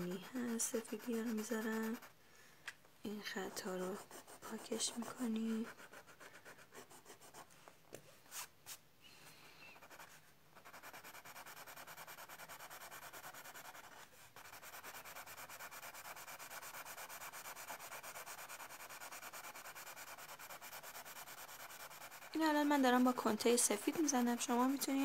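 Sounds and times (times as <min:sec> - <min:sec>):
crayon scratching on card: 0:00.0 - 0:02.1, 0:03.4 - 0:07.5, 0:09.8 - 0:25.0.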